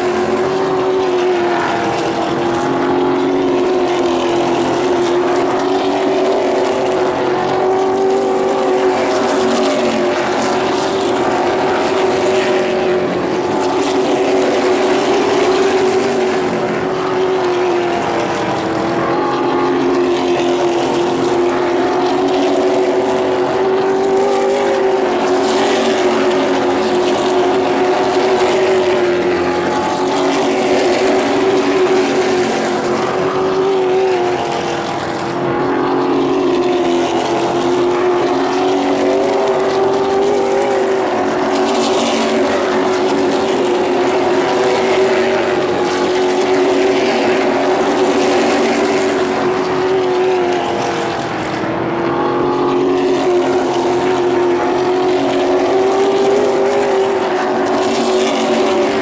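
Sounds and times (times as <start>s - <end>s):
stock car engines racing: 0.0s - 59.0s.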